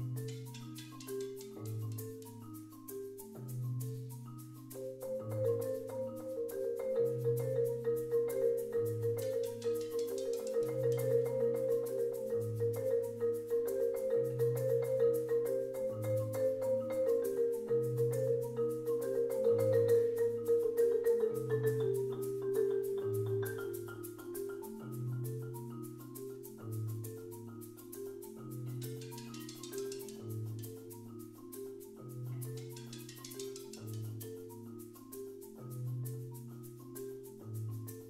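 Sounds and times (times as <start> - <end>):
marimbas playing: 0.0 - 38.0.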